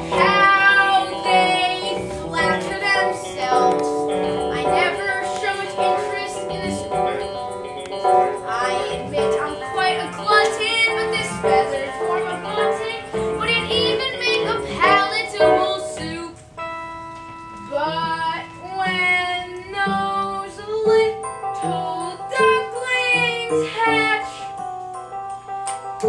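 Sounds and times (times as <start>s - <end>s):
instrumental accompaniment: 0.0s - 26.0s.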